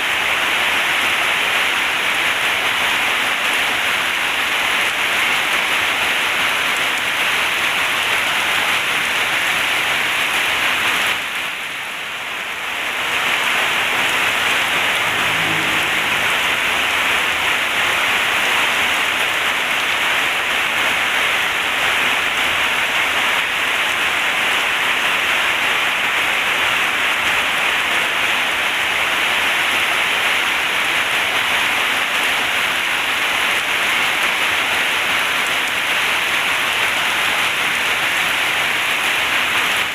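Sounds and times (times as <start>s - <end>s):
heavy rain on metal roof: 0.0s - 39.9s.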